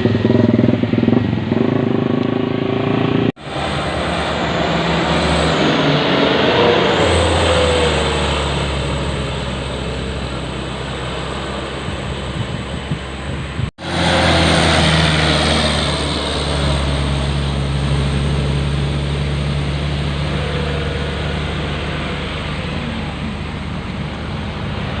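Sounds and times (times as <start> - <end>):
road noise: 0.0 - 25.0
truck diesel engine under load: 0.0 - 25.0.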